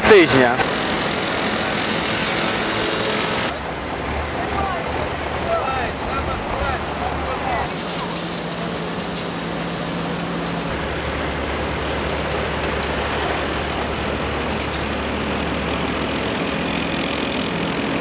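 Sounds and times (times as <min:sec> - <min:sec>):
heavy machinery engines running: 0:00.0 - 0:18.0
traffic rumble: 0:00.0 - 0:18.0.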